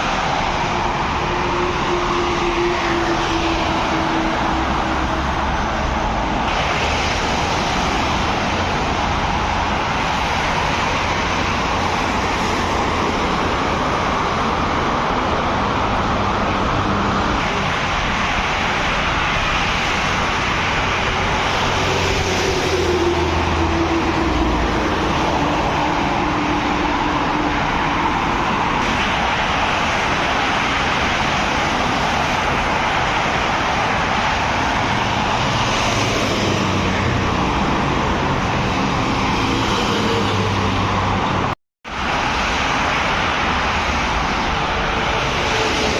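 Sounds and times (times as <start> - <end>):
traffic driving past: 0.0 - 45.9.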